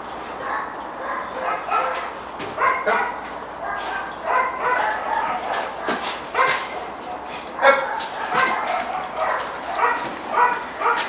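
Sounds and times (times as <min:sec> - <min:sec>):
dog barking and yipping: 0:00.4 - 0:11.0.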